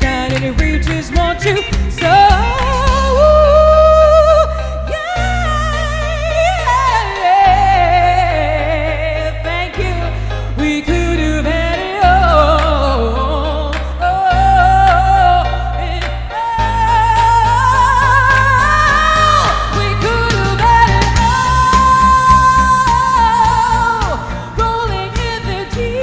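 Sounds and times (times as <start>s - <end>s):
band accompaniment with bass: 0.0s - 26.0s.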